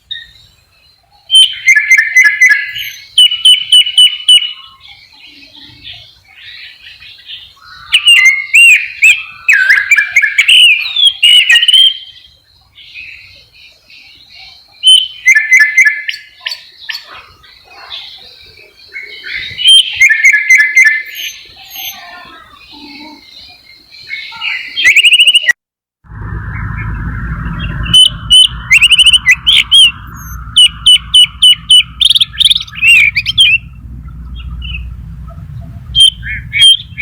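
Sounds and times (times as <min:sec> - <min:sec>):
bird twittering: 0:00.0 - 0:25.6, 0:26.5 - 0:37.0
blackbird singing: 0:00.0 - 0:25.6, 0:26.9 - 0:37.0.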